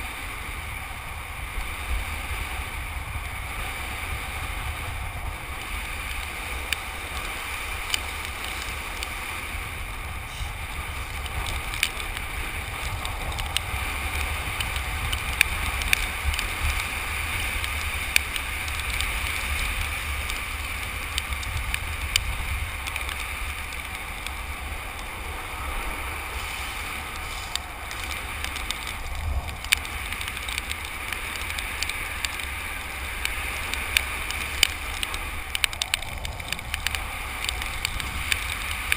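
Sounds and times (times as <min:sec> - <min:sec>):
skateboard wheels rolling on asphalt: 0:00.0 - 0:38.9
wind noise on microphone: 0:00.0 - 0:38.9.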